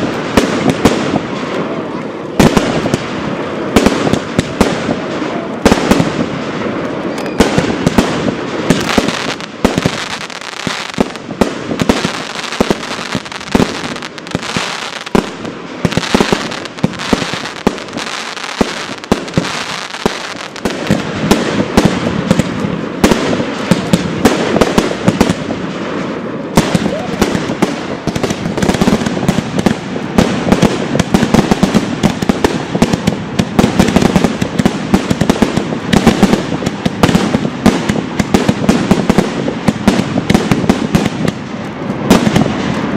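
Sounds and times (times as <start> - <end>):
fireworks bursting with bangs: 0.0 - 42.9.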